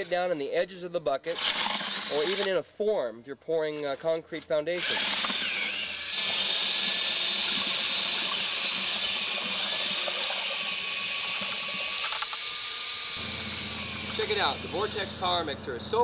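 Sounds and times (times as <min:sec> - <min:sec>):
drill mixing wet concrete: 0:00.0 - 0:00.3, 0:01.2 - 0:02.5, 0:04.7 - 0:16.0.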